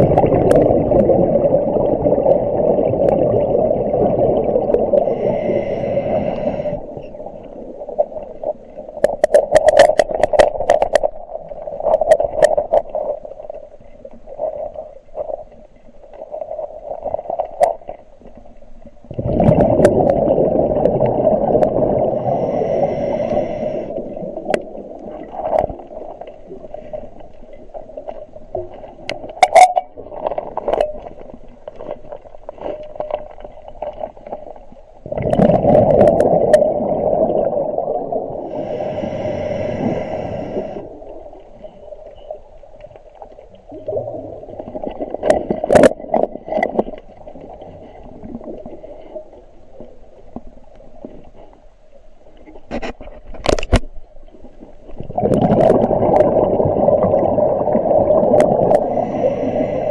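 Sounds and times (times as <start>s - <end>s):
muffled gurgling water: 0.0s - 59.9s.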